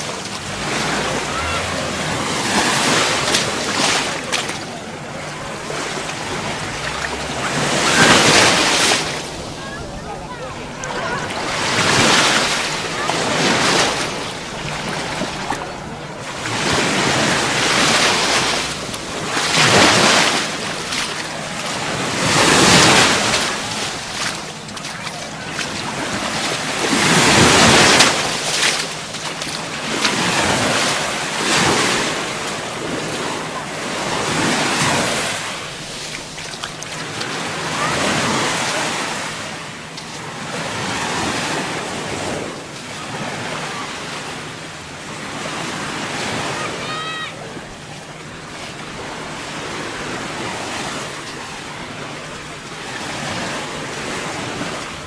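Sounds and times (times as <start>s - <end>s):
surf breaking on beach: 0.0s - 55.0s.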